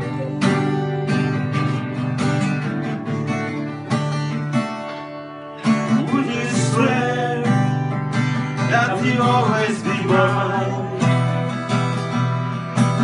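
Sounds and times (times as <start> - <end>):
acoustic guitar playing chords: 0.0 - 13.0.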